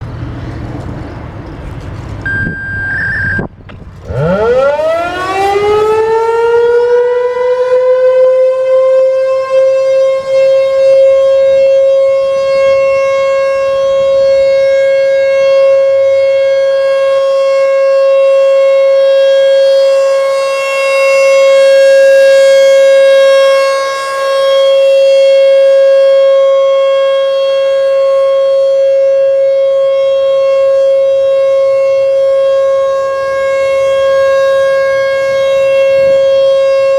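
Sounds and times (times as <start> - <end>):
warning siren wailing: 2.3 - 36.9.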